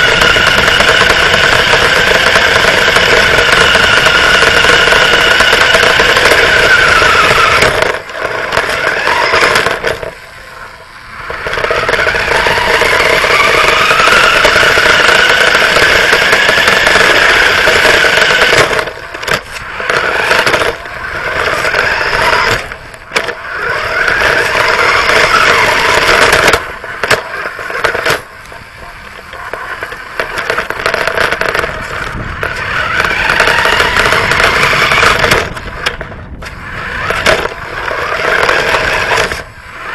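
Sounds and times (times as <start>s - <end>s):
toy car motor running: 0.0s - 10.1s, 10.7s - 39.9s
chassis rattling on asphalt: 0.0s - 39.9s.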